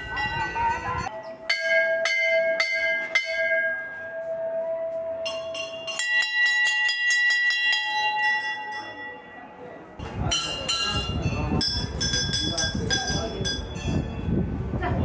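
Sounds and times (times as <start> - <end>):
temple bells ringing: 0.0 - 14.3.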